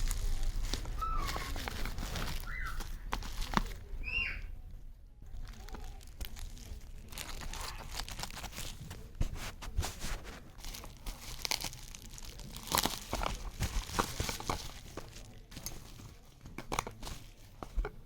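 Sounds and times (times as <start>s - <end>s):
packaging crinkling and rustling: 0.0s - 4.0s, 5.2s - 18.0s.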